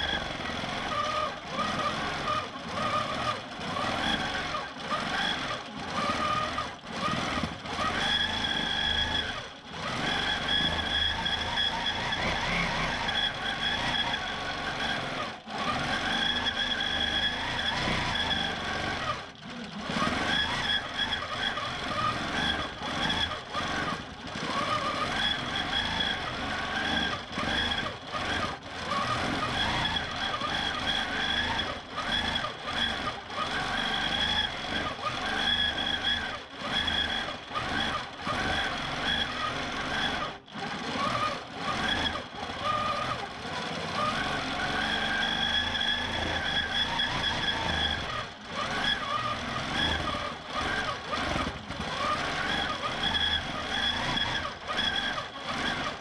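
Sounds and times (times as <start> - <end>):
quilting machine motor stitching: 0.0 - 56.0.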